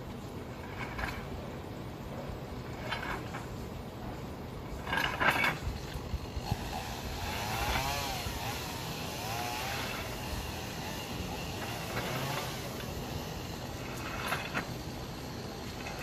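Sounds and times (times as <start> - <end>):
sled scraping over rough ground: 0.0 - 16.0.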